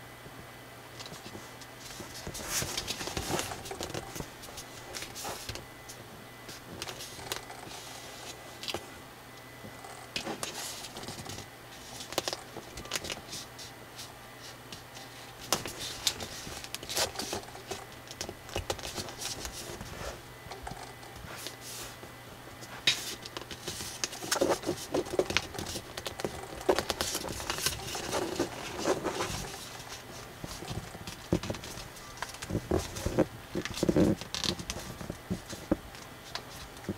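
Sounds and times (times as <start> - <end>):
paper rustling: 1.0 - 8.8, 10.2 - 36.9.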